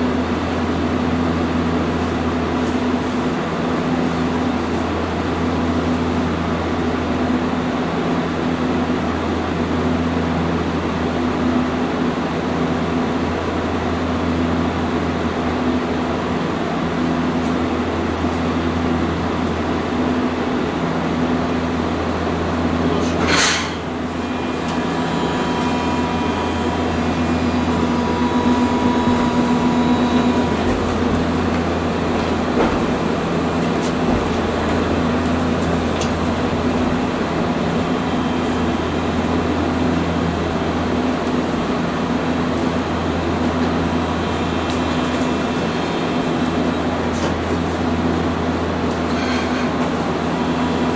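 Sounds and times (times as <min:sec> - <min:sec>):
tram cabin noise: 0:00.0 - 0:50.9.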